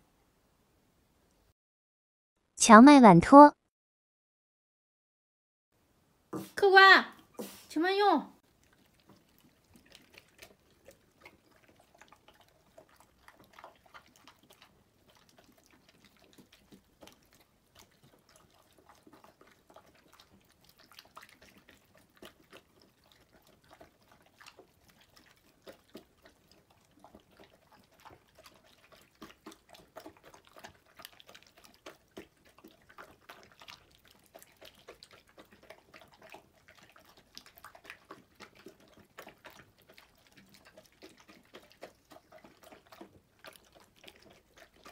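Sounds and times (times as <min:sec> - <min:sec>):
dogs eating wet food: 0:08.4 - 0:44.9.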